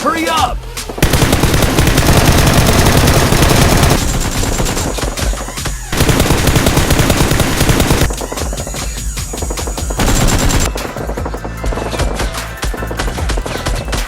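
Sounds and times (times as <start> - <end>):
rapid automatic gunfire: 1.0 - 13.8.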